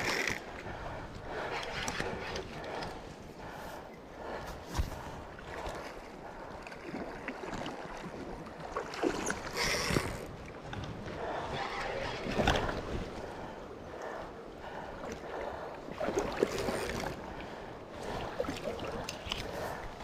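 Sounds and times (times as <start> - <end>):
water lapping and splashing: 0.0 - 20.0.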